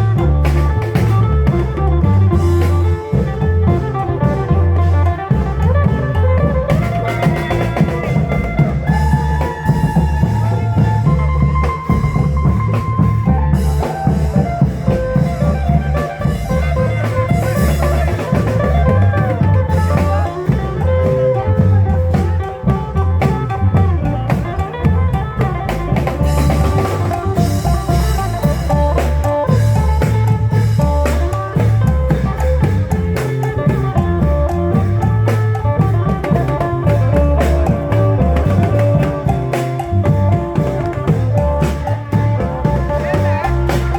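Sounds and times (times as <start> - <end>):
heavy drum beat: 0.0 - 43.9
pitch-bending melodic lead: 0.0 - 43.9.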